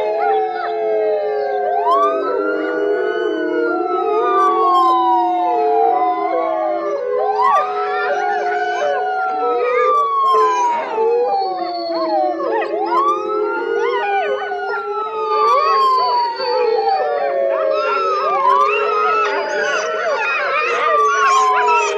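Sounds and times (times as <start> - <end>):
dogs howling: 0.0 - 21.9
emergency siren wailing: 0.0 - 21.9.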